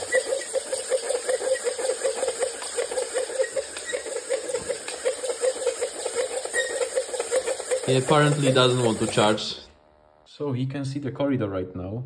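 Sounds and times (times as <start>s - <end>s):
robot servos buzzing: 0.0s - 9.8s.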